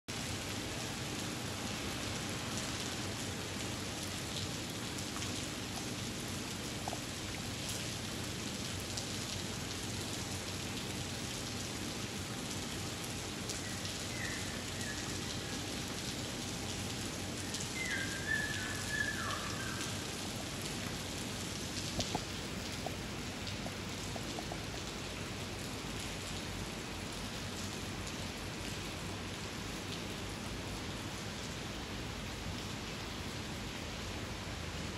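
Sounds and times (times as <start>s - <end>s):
rain on wooden floorboards: 0.1s - 34.9s.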